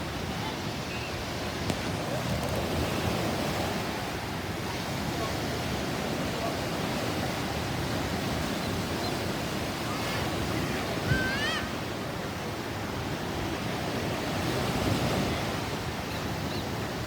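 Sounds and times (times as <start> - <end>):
sea surf washing: 0.0 - 17.0.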